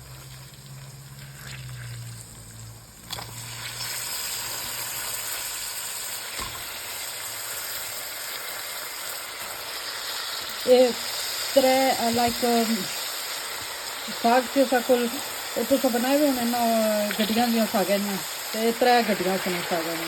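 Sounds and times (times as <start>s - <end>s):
greens sizzling in oil: 0.0s - 20.0s.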